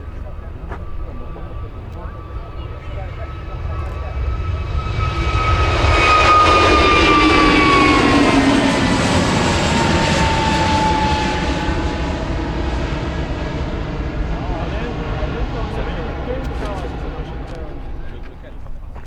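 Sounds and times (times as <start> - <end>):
airliner engine whine passing: 0.0 - 19.0.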